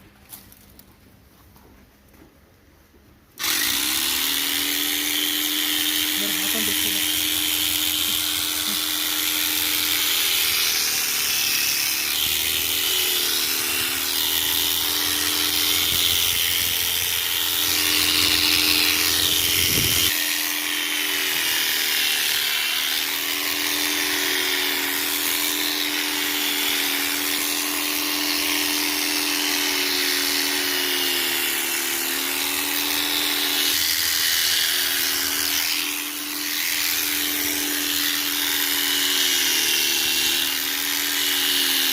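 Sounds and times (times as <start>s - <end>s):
electric clipper running: 3.4s - 41.9s.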